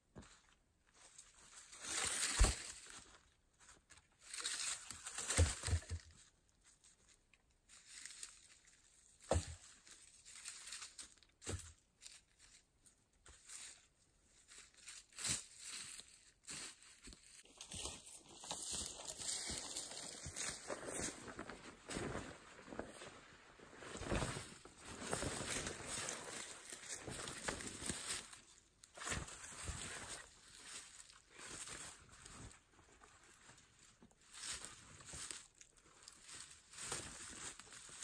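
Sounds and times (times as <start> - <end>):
rustling and crinkling: 0.1 - 38.0.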